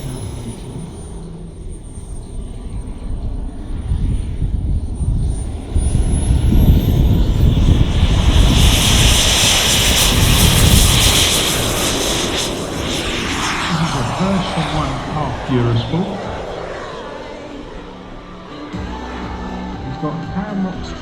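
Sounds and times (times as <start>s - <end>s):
jet rush: 0.0s - 21.0s
model jet turbine whine: 0.0s - 21.0s.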